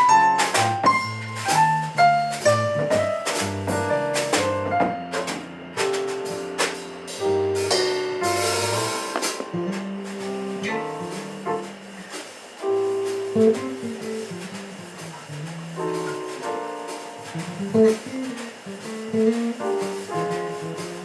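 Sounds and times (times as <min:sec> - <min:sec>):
drums and cymbals: 0:00.0 - 0:21.0
electric bass: 0:00.0 - 0:21.0.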